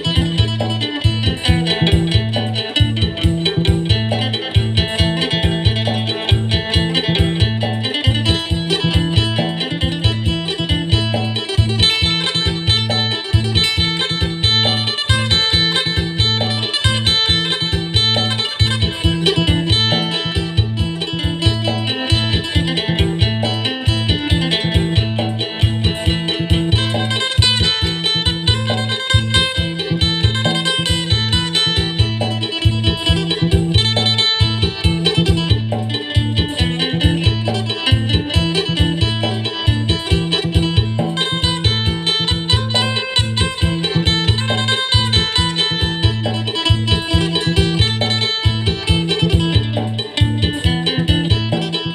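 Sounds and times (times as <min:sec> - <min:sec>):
plucked lute melody: 0:00.0 - 0:51.9.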